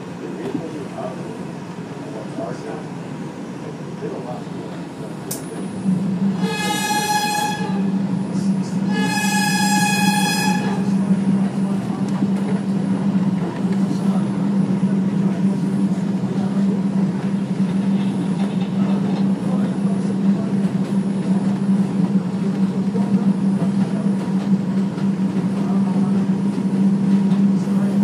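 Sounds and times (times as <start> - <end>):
subway wheels rumbling on rail: 0.0 - 28.0.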